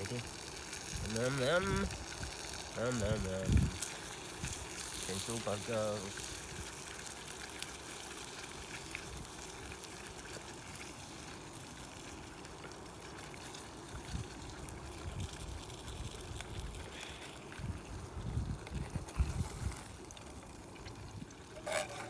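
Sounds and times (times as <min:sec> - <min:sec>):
trickling rushing water: 0:00.0 - 0:22.0.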